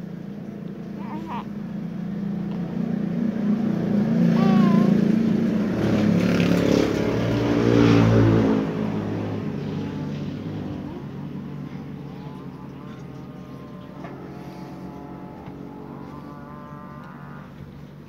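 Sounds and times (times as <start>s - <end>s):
motor engine running: 0.0s - 18.0s.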